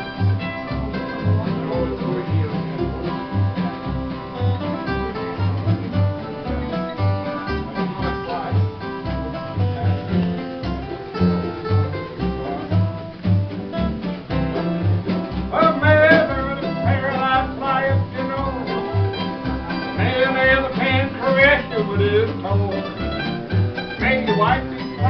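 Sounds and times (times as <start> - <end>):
acoustic guitar strumming: 0.0 - 25.0
wavering lead melody: 0.0 - 25.0.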